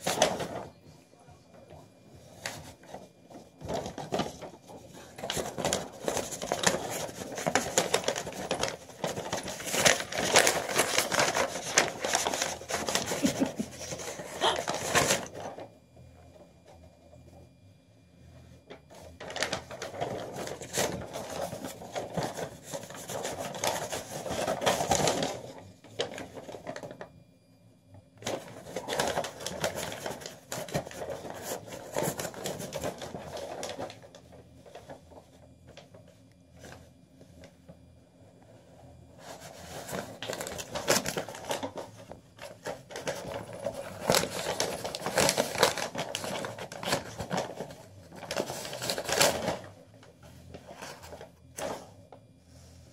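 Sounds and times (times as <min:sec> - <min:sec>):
paper rustling and scraping: 0:00.0 - 0:00.8, 0:01.7 - 0:15.7, 0:18.7 - 0:27.0, 0:28.2 - 0:37.5, 0:38.5 - 0:51.9.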